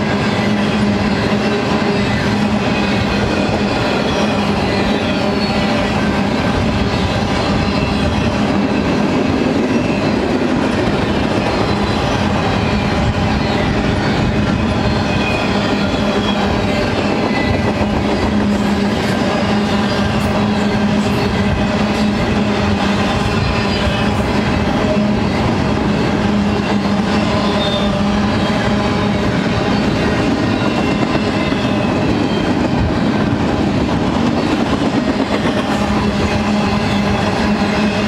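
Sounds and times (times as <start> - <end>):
freight train rolling past: 0.0 - 38.0.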